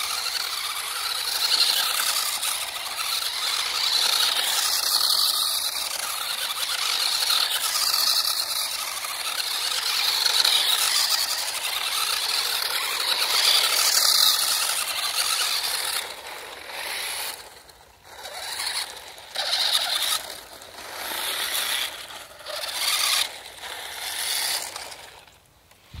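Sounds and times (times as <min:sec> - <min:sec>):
toy car motor whining: 0:00.0 - 0:25.9.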